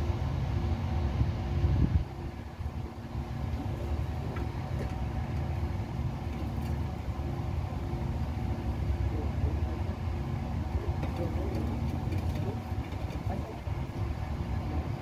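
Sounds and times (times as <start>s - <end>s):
forklift engine idling: 2.0s - 15.0s.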